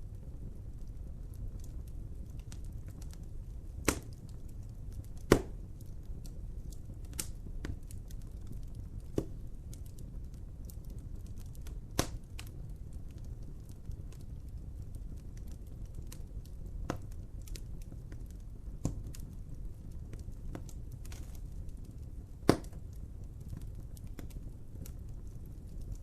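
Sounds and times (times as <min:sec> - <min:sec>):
wood fire crackling: 0:00.0 - 0:26.0
sharp pops of fire: 0:00.2 - 0:26.0.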